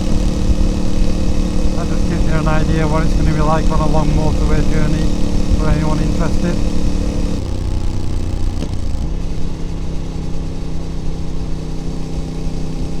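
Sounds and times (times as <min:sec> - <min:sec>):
motorcycle engine cruising: 0:00.0 - 0:13.0
road noise: 0:00.0 - 0:13.0.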